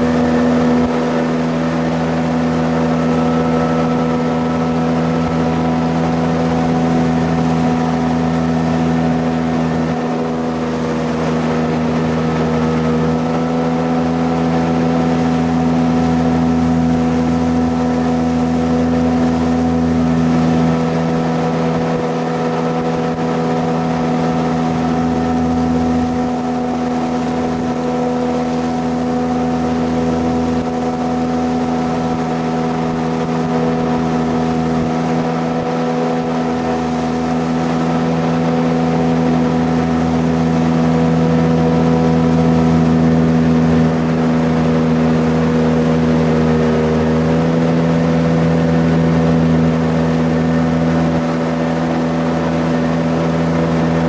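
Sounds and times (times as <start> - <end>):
jet boat engine running: 0.0 - 54.0
water rushing: 0.0 - 54.0.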